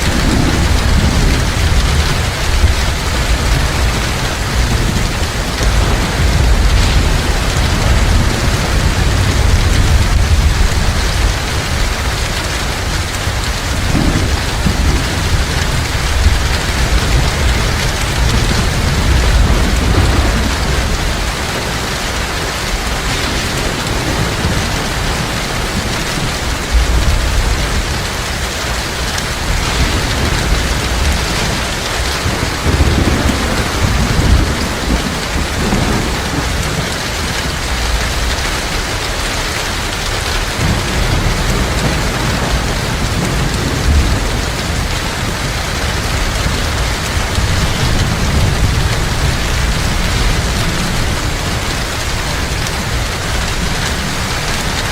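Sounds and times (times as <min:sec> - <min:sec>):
heavy rain downpour: 0:00.0 - 0:54.9
low thunder rumbles: 0:00.0 - 0:54.9.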